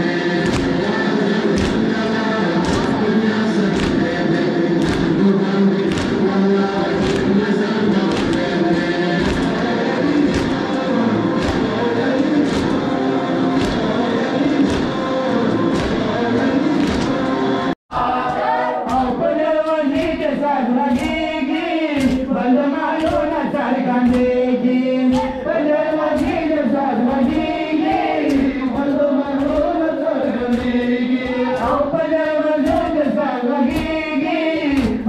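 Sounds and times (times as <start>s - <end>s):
men chanting in chorus: 0.0s - 35.0s.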